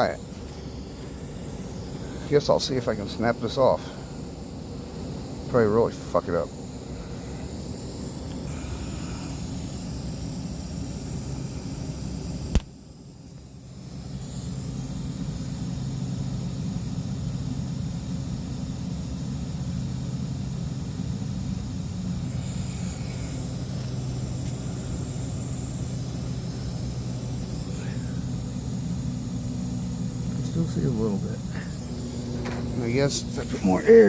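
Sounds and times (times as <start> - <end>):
low mechanical hum and hiss: 0.0 - 34.0.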